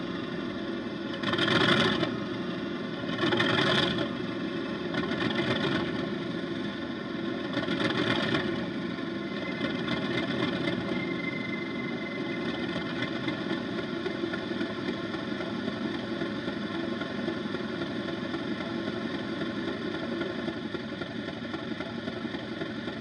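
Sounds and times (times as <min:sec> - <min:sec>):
diesel engine idling through small speaker: 0:00.0 - 0:23.0.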